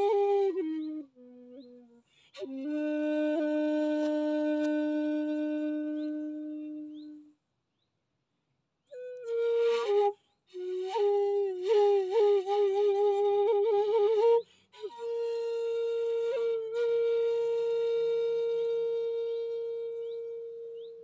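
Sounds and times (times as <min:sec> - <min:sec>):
bamboo flute solo melody: 0:00.0 - 0:07.3, 0:08.9 - 0:21.0.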